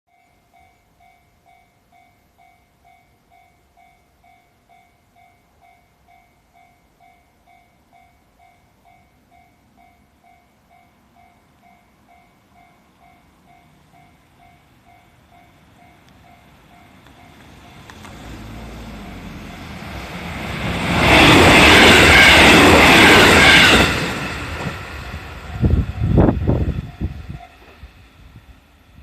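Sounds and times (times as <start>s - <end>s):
approaching train rumble: 1.9s - 29.0s.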